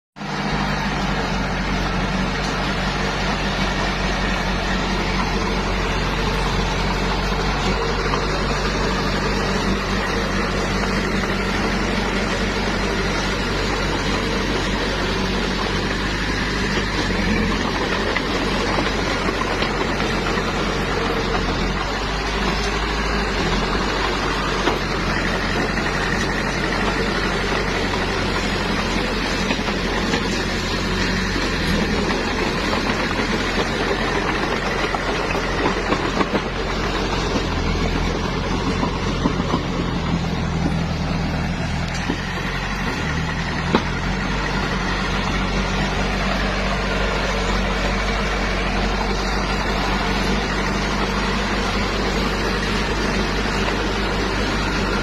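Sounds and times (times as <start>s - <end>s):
bulldozer engine running: 0.0s - 55.0s.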